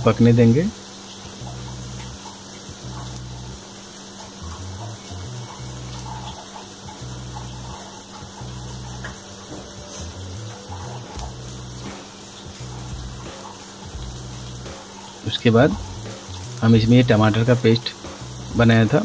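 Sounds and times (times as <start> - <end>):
background music with bass line: 0.0 - 19.0
onions frying in oil: 0.0 - 19.0.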